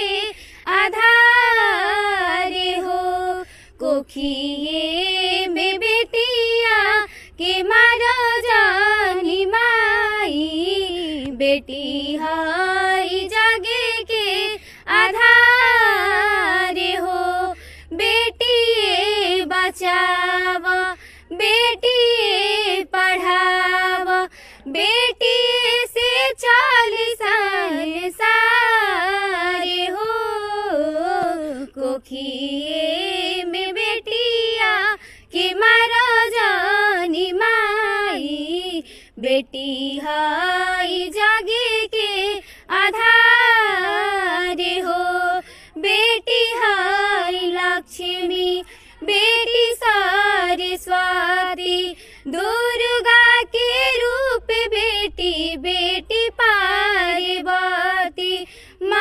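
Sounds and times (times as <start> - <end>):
girls singing: 0.0 - 59.0.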